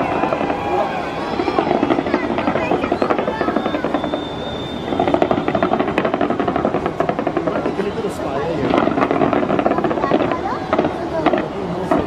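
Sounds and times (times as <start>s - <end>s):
crowd murmur: 0.0s - 12.0s
fireworks crackling: 0.0s - 12.0s.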